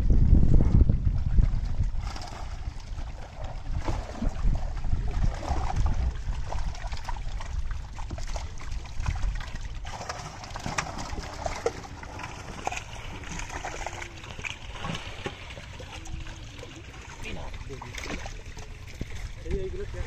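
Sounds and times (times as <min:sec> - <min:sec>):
low rumble: 0:00.0 - 0:20.0
muddy water sloshing and splashing: 0:00.0 - 0:20.0.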